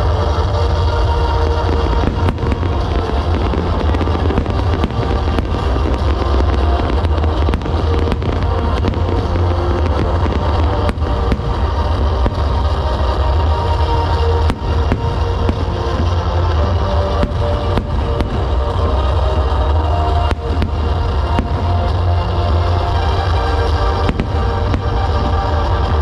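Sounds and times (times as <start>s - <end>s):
deep low rumble: 0.0s - 26.0s
fireworks bursting and crackling: 0.0s - 26.0s
loud music: 0.0s - 26.0s.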